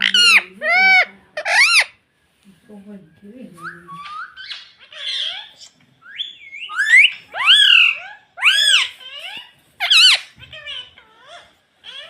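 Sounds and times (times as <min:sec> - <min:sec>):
parrot chattering and squawking: 0:00.0 - 0:02.0, 0:04.0 - 0:12.0.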